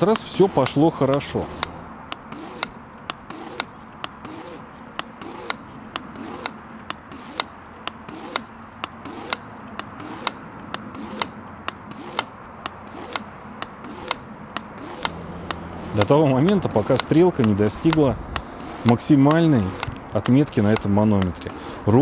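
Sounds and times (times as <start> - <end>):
hand air pump strokes: 0.0 - 22.0.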